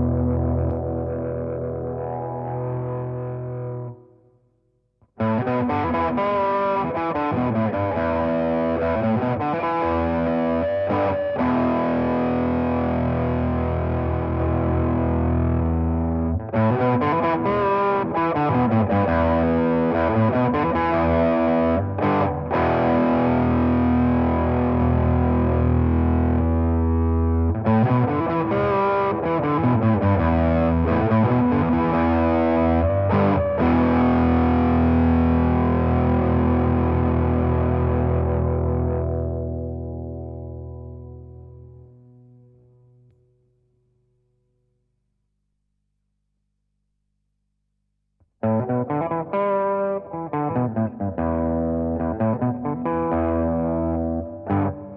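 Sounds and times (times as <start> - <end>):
distorted electric guitar riff: 0.0 - 4.1, 5.2 - 41.9, 48.4 - 54.9.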